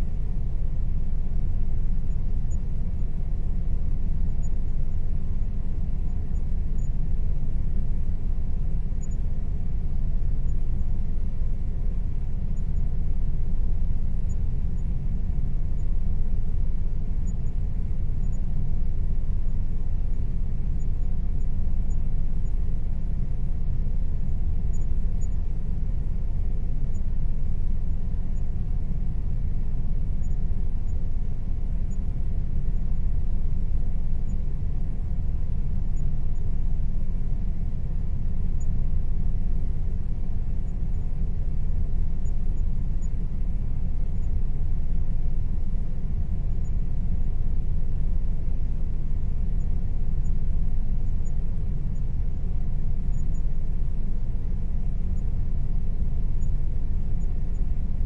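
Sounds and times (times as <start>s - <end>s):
air conditioner fan rumble: 0.0s - 58.0s
faint steady hum: 0.0s - 58.0s.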